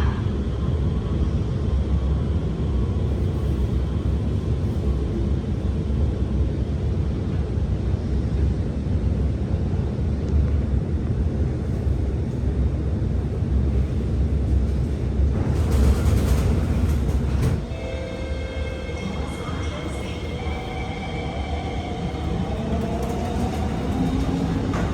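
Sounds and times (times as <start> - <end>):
metro train rumbling: 0.0 - 24.9.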